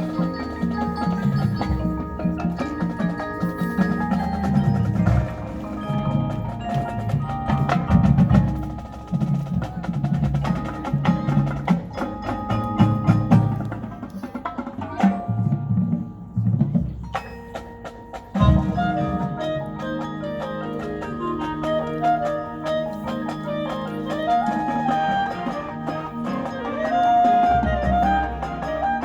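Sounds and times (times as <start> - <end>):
marching band percussion: 0.0 - 29.0.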